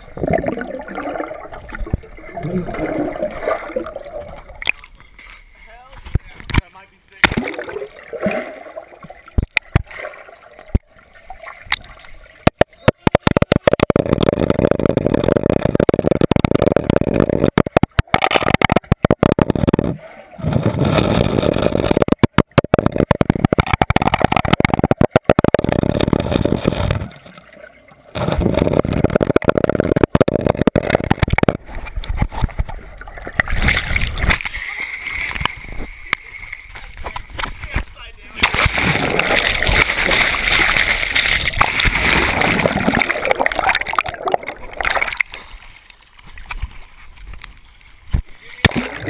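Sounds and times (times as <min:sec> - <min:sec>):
underwater rush of water and bubbles: 0:00.0 - 0:49.0.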